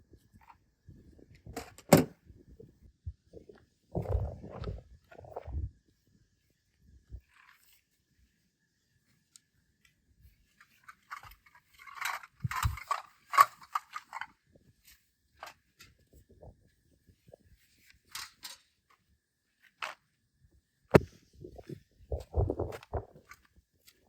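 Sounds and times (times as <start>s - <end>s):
camping gear rustling: 0.0s - 20.2s, 20.9s - 24.0s.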